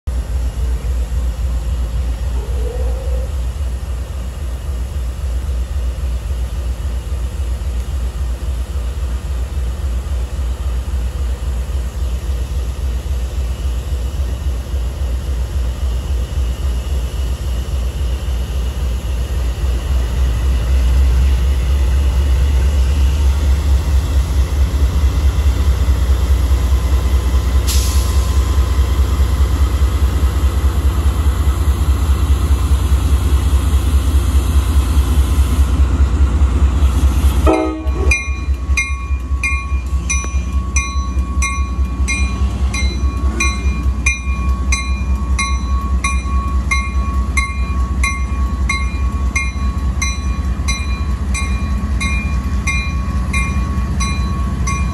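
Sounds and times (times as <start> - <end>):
locomotive diesel engines rumbling: 0.1 - 54.9.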